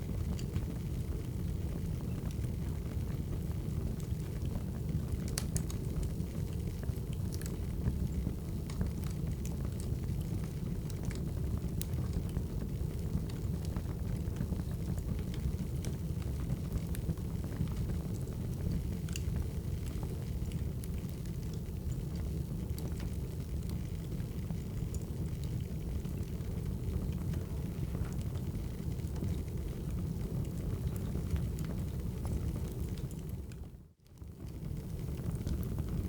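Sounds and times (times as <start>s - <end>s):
low rumble of fire: 0.0s - 36.0s
wood fire crackling: 0.0s - 36.0s.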